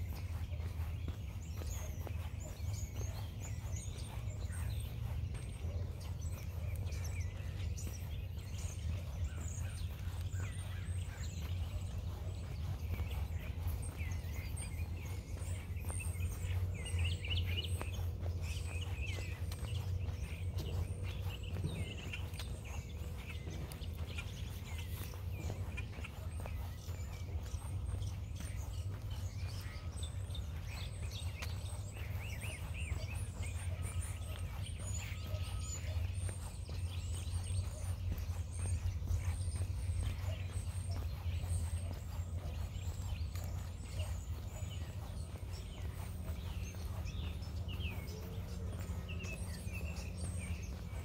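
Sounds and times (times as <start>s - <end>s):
birds chirping: 0.0s - 51.0s
footsteps on a path: 0.0s - 51.0s.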